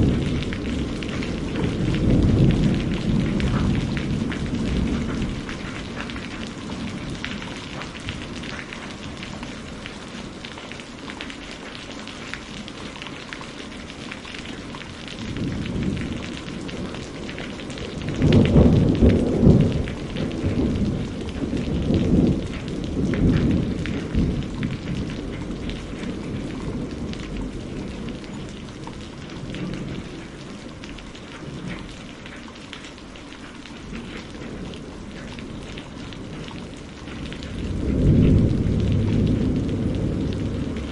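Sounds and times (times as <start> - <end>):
thunder rumbling: 0.0 - 10.6, 12.8 - 32.3, 33.8 - 40.9
steady rain: 0.0 - 40.9.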